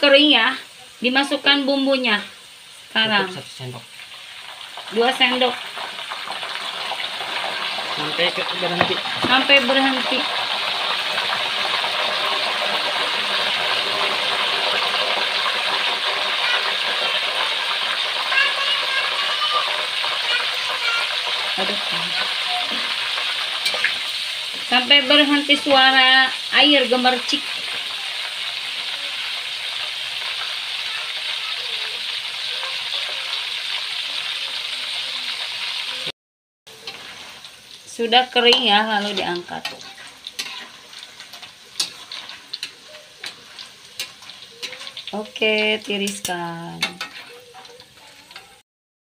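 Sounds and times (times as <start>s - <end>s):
food deep-frying in hot oil: 0.0s - 36.1s, 36.7s - 48.6s.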